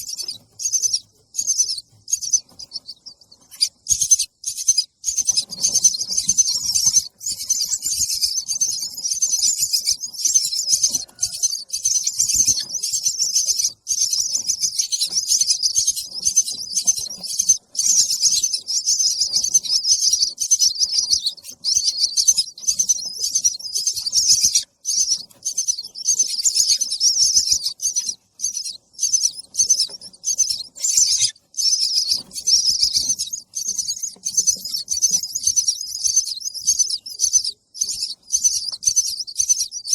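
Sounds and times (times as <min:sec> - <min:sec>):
baby bird chirping: 0:00.0 - 0:39.9.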